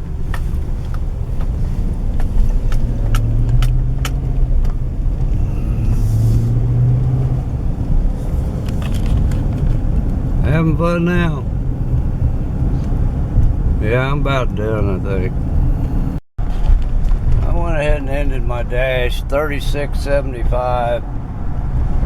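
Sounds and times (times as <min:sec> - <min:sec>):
low rumble inside car cabin: 0:00.0 - 0:22.0.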